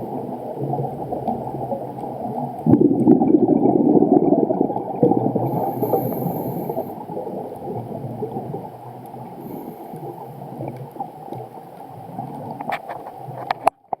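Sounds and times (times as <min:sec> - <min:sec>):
regulator bubbles gurgling underwater: 0:00.0 - 0:13.6.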